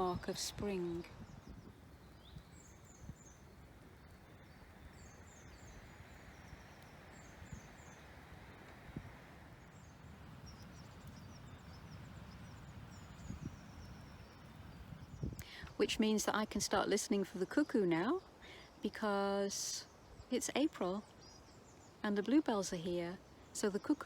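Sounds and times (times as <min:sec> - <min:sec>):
songbird singing faintly: 0:00.0 - 0:24.0
woodland ambience rush: 0:00.0 - 0:24.0.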